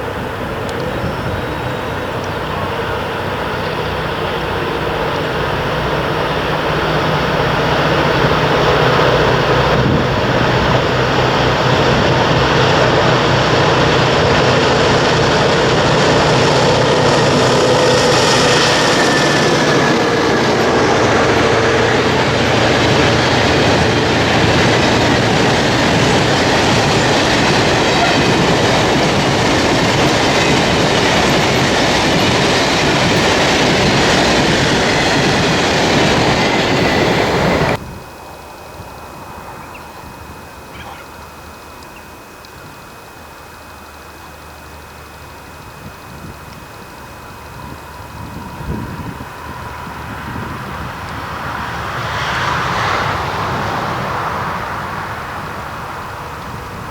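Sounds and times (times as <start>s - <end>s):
diesel locomotive engine drone: 0.0s - 56.9s
train wagons rumbling on rails: 0.0s - 56.9s.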